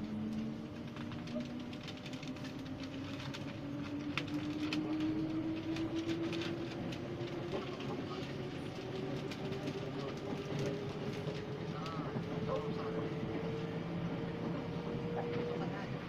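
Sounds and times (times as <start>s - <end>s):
wheels clicking on track: 0.1s - 16.0s.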